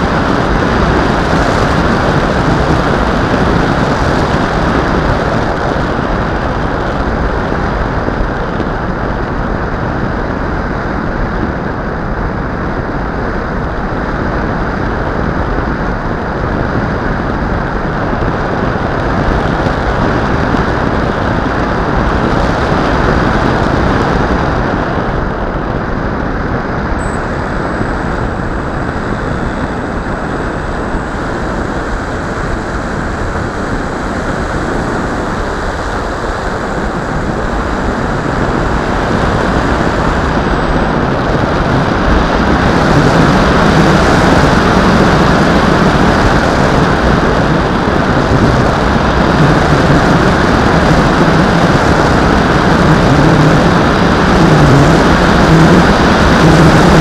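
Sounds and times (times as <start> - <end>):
electric motor and propeller: 0.0 - 57.0
rushing airflow: 0.0 - 57.0.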